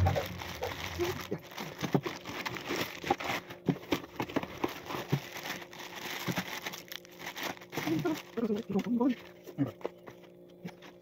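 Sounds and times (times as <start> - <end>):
plastic bags crinkling: 0.0 - 9.3.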